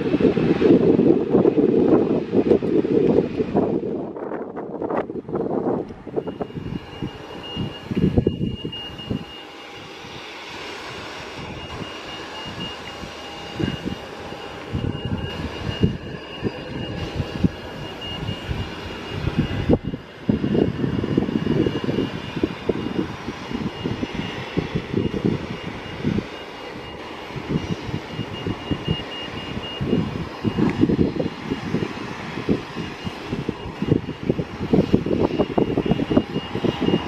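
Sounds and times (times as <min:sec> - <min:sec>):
jet engines at taxi power: 0:00.0 - 0:37.0.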